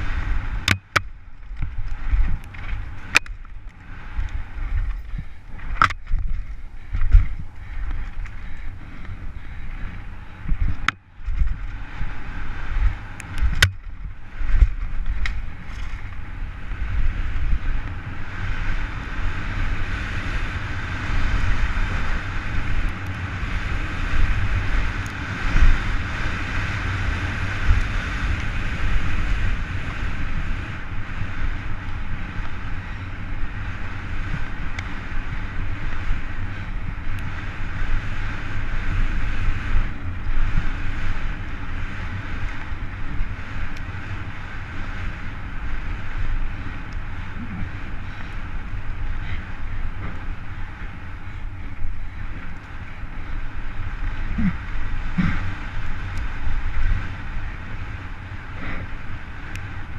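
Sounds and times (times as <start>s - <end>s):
bike knocking and rattling: 0.0s - 59.9s
wind buffeting microphone: 0.0s - 59.9s.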